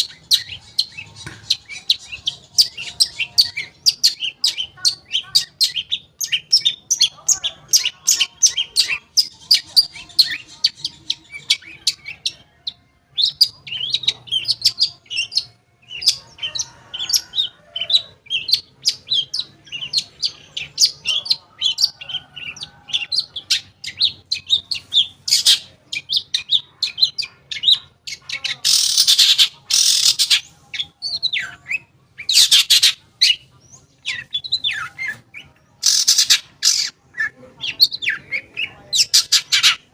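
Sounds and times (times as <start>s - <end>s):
bird harsh rasping calls: 0.0s - 12.5s, 13.2s - 39.9s
bird chirping and trilling: 0.0s - 39.9s.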